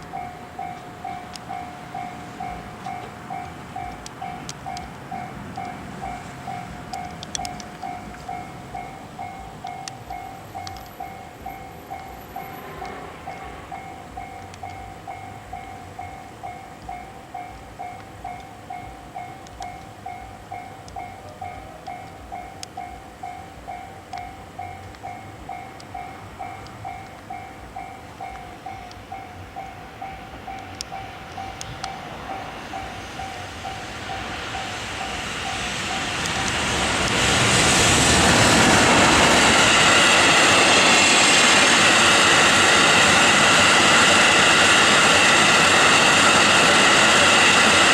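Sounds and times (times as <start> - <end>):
freight train rail and wheel noise: 0.0 - 47.9.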